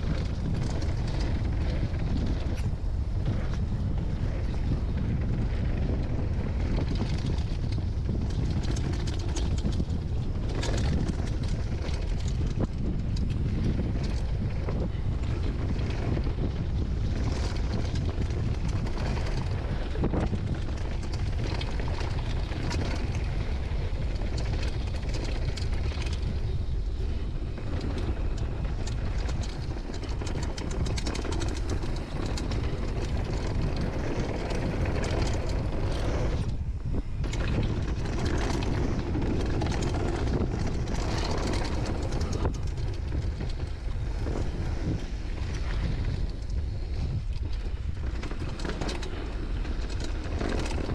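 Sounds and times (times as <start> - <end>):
bike rattling over bumps: 0.0 - 50.9
wind on microphone: 0.0 - 50.9.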